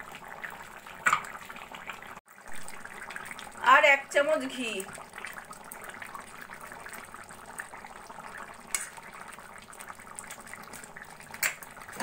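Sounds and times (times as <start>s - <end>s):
curry bubbling and sizzling: 0.0s - 12.0s.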